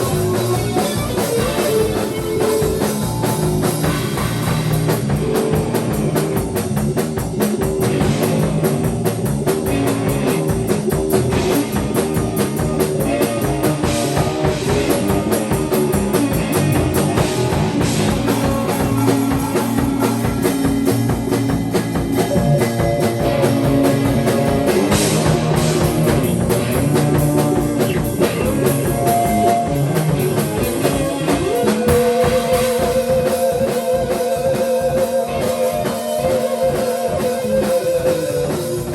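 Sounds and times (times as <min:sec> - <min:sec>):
drum kit beat: 0:00.0 - 0:38.9
rock guitar: 0:00.0 - 0:38.9.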